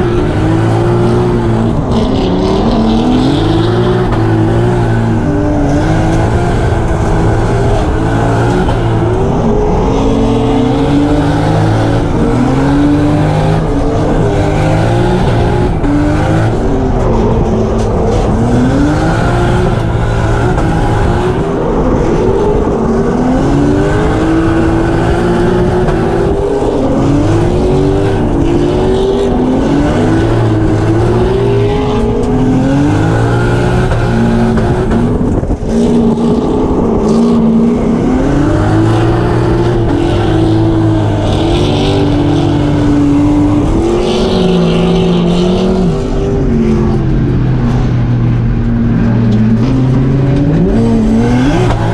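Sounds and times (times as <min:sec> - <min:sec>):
car engine revving hard: 0:00.0 - 0:51.9.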